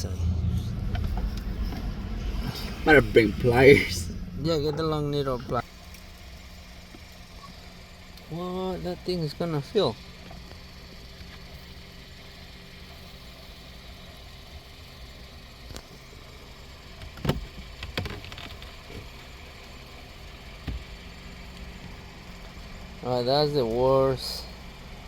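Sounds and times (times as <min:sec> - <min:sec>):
low motor hum: 0:00.0 - 0:25.0.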